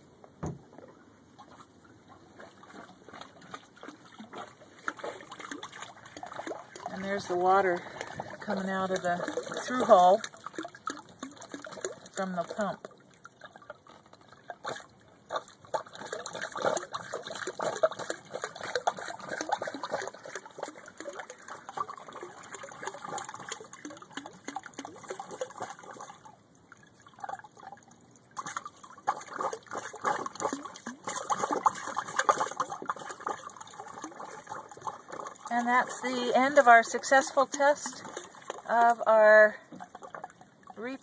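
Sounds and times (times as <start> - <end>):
pump discharge water splashing: 1.4 - 41.0.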